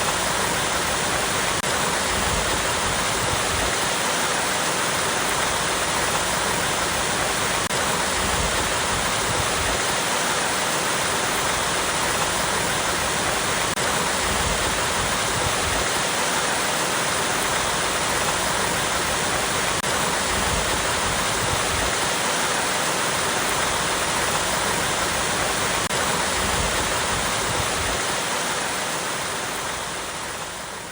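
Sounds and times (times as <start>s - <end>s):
waterfall over rocks: 0.0s - 30.9s.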